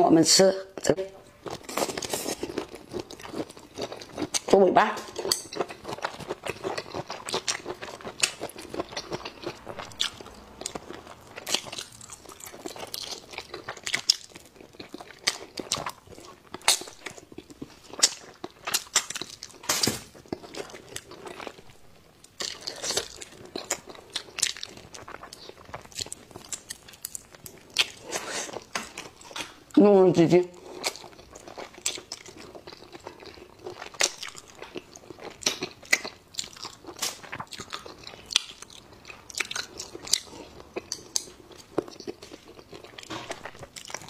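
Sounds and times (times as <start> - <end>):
chewing with wet mouth sounds: 1.4 - 29.8, 30.6 - 44.0.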